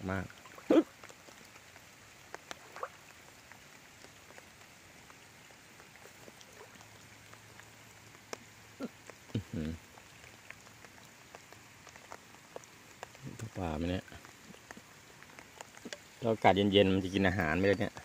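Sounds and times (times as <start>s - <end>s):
heavy rain falling: 0.0s - 18.0s
drops ticking close by: 0.2s - 18.0s.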